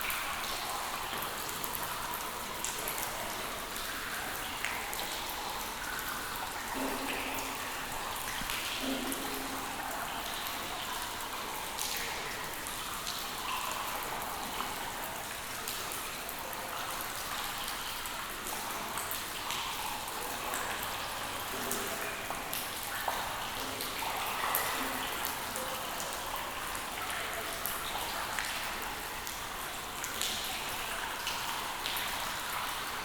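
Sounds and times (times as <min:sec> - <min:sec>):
raindrops tapping and plinking: 0:00.0 - 0:33.0
steady rain: 0:00.0 - 0:33.0.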